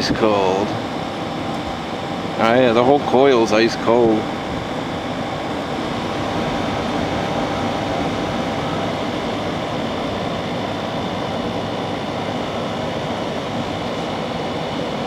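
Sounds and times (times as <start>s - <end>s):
air conditioner fan rushing: 0.0s - 15.0s
faint steady hum: 0.0s - 15.0s.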